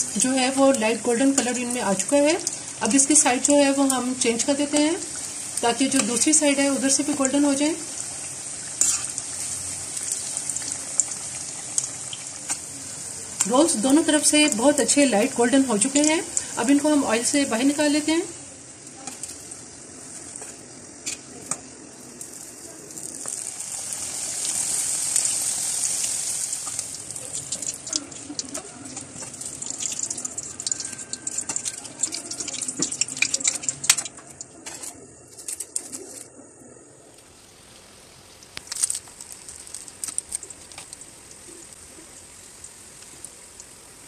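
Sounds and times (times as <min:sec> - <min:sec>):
food deep-frying in hot oil: 0:00.0 - 0:36.3, 0:37.1 - 0:44.0.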